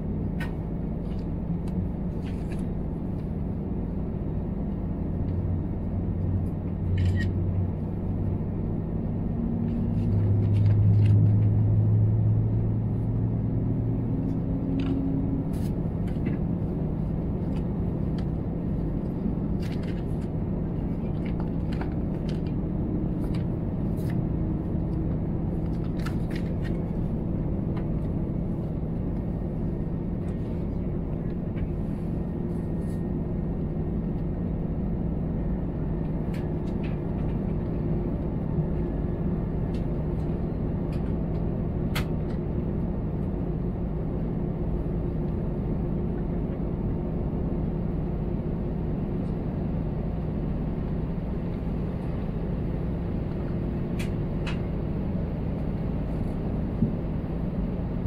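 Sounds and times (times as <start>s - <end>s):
low cabin rumble: 0.0s - 58.0s.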